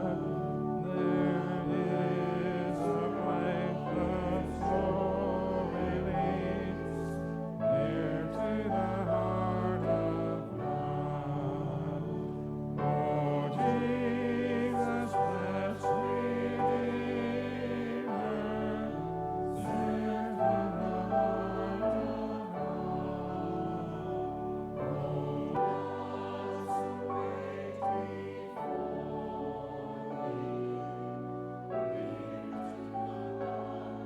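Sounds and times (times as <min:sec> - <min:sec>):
choir singing: 0:00.0 - 0:34.0
slow church music chords: 0:00.0 - 0:34.0.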